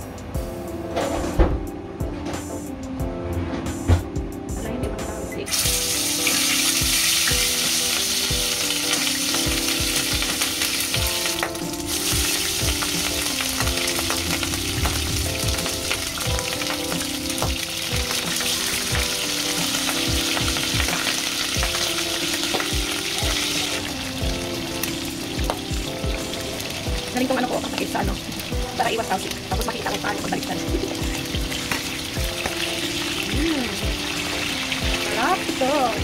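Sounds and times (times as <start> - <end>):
meat sizzling in hot oil: 5.5 - 36.0.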